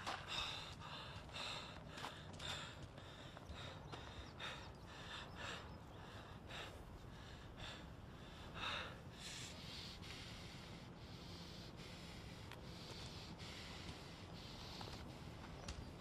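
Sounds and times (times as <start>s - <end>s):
person breathing heavily: 0.0s - 16.0s.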